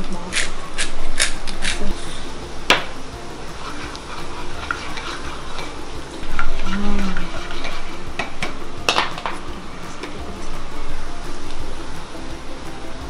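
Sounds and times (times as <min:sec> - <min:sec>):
oil sizzling in a pot: 0:00.0 - 0:13.0
spoon stirring and scraping: 0:00.1 - 0:13.0.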